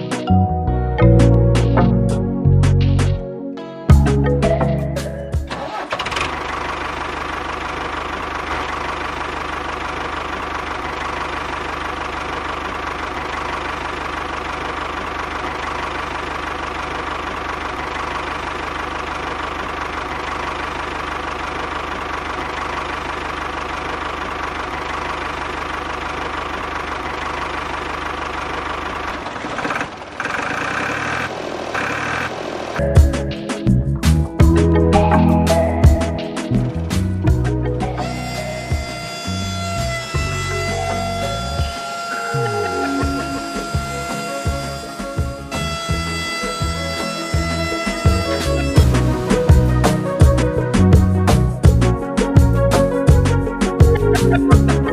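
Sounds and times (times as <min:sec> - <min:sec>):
engine idling with knocking beat: 0:03.9 - 0:54.9.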